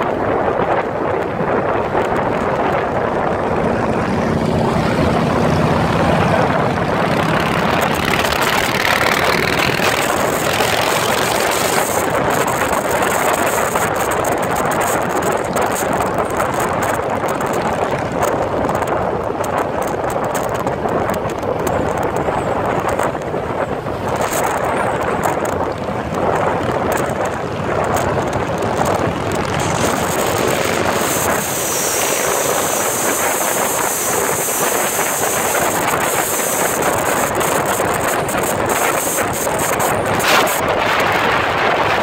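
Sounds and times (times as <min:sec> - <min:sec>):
motorcycle engines running: 0:00.0 - 0:42.0
wind rushing over microphone: 0:00.0 - 0:42.0.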